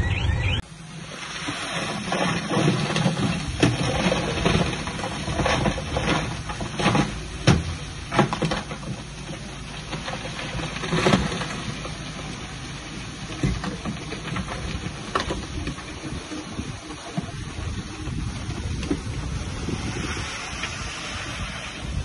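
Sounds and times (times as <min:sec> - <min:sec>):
bulldozer engine running: 0:00.0 - 0:22.0.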